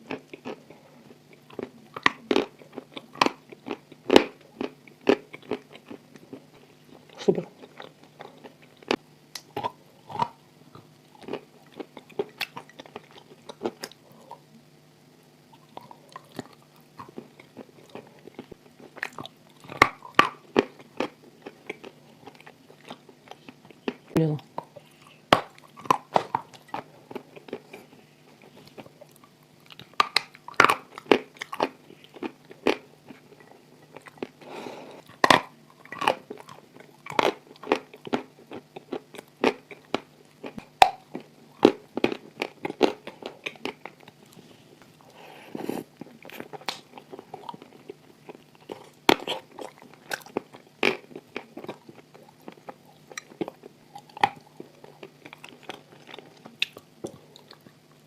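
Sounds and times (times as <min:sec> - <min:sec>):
person chewing crunchy clay: 0:00.0 - 0:14.7, 0:15.4 - 0:58.0
faint low hum: 0:00.0 - 0:58.0.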